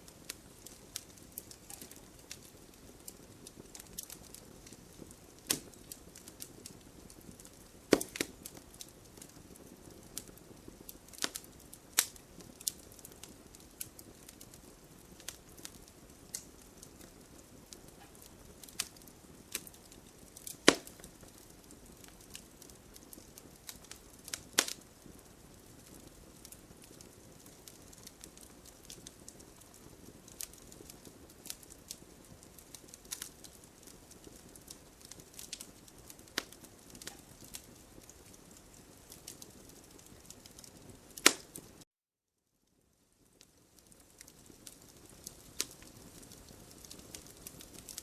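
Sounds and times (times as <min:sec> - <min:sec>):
campfire crackling: 0:00.0 - 0:41.8, 0:42.7 - 0:48.0.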